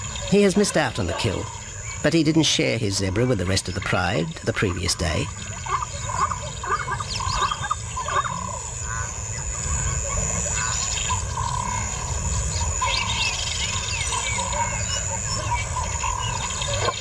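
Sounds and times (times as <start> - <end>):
wavering moaning calls: 0.0 - 17.0.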